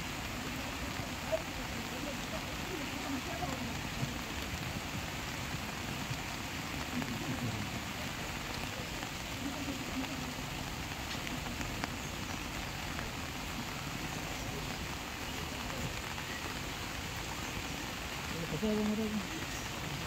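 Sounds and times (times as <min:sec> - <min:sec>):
faint voices: 0:00.0 - 0:20.0
heavy rain and floodwater: 0:00.0 - 0:20.0.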